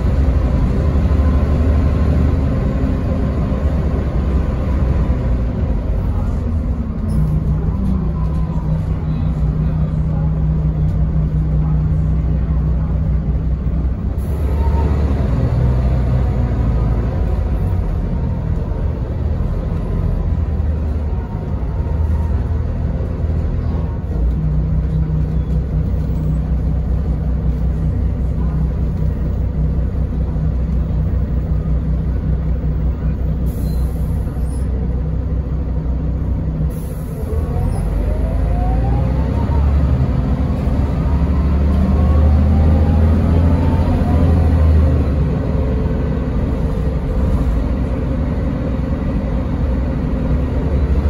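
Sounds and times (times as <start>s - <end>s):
bus engine drone: 0.0s - 51.0s
road rumble: 0.0s - 51.0s.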